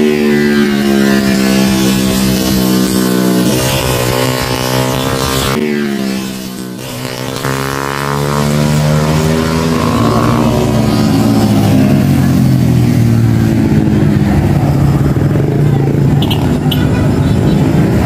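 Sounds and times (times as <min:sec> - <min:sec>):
motorcycles passing at speed: 0:00.0 - 0:18.0.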